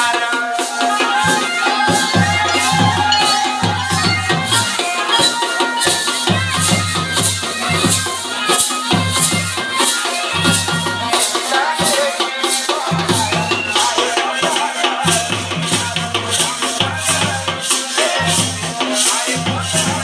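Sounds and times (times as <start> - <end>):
shaker percussion: 0.0 - 20.0.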